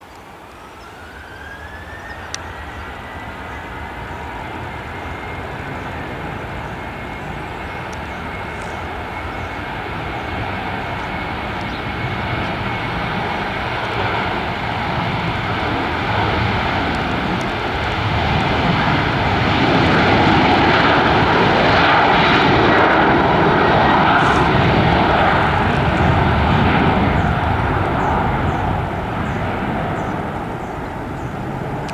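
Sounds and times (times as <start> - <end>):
jet engines roaring at takeoff: 0.0 - 31.9.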